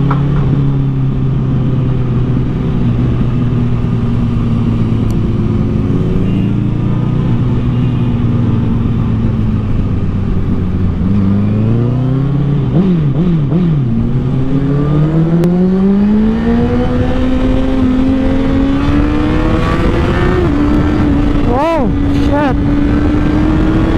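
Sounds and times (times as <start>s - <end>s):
motorcycle engine revving: 1.3s - 23.9s.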